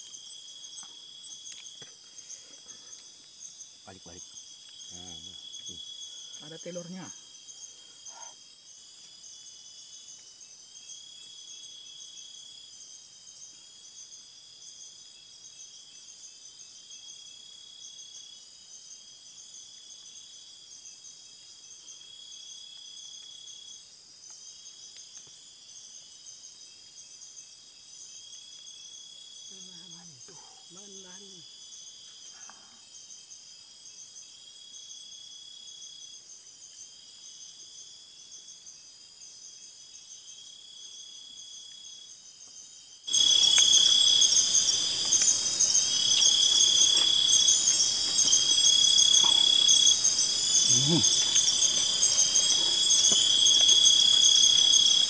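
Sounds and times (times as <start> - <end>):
insects trilling: 0.0 - 55.0
repeating insect call: 0.0 - 55.0.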